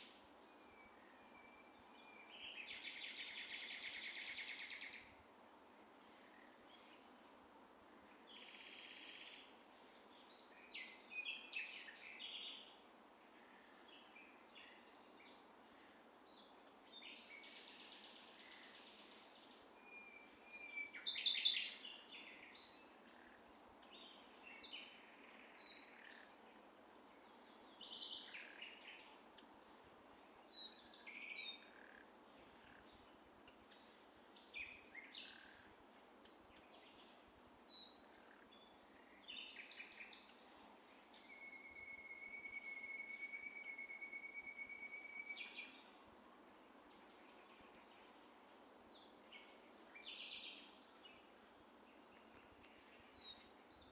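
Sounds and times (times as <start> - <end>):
faint steady hiss: 0.0 - 53.9
songbirds chirping and trilling: 0.0 - 53.9.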